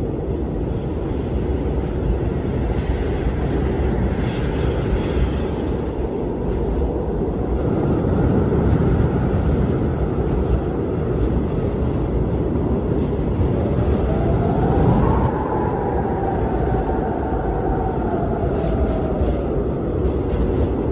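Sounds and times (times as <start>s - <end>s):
howling wind whistle: 0.0s - 20.9s
strong wind rumbling: 0.0s - 20.9s.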